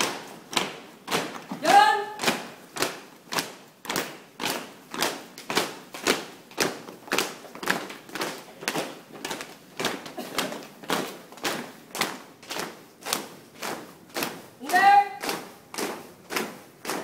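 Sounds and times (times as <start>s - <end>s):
marching footsteps on paving: 0.0s - 17.0s.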